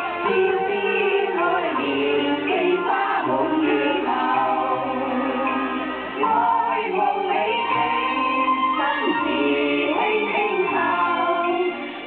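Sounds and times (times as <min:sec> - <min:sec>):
choir singing: 0:00.0 - 0:12.0
musical accompaniment: 0:00.0 - 0:12.0.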